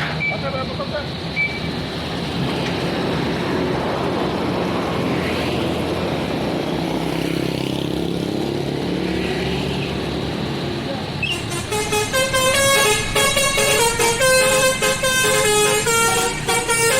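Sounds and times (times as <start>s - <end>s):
bus engine running: 0.0s - 16.9s
road and traffic noise: 0.0s - 16.9s.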